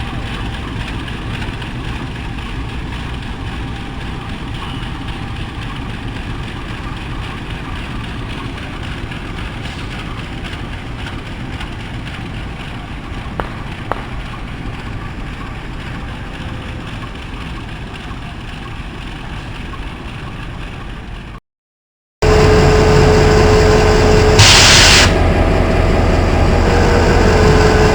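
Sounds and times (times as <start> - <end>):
train wheels rumbling: 0.0 - 21.4, 22.2 - 27.9.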